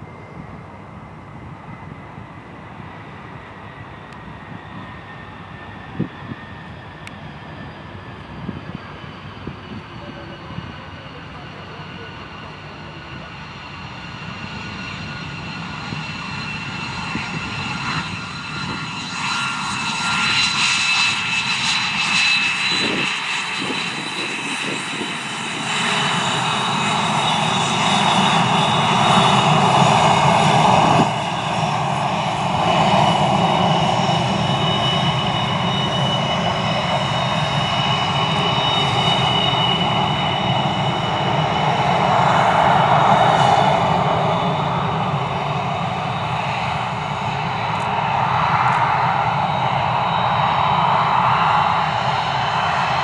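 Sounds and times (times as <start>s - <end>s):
jet engines rumbling with turbine whine: 0.0s - 53.0s.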